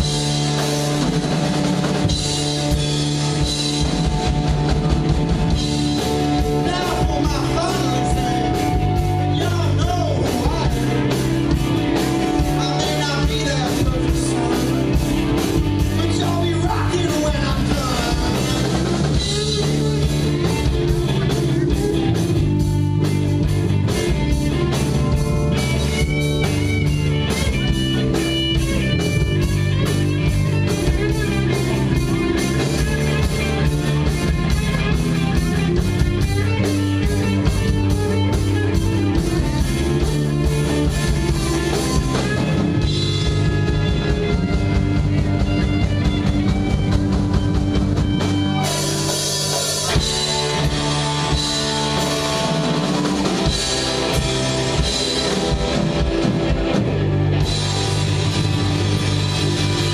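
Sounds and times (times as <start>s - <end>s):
bass guitar: 0.0s - 59.9s
drum kit beat: 0.0s - 59.9s
electric guitar: 0.0s - 59.9s.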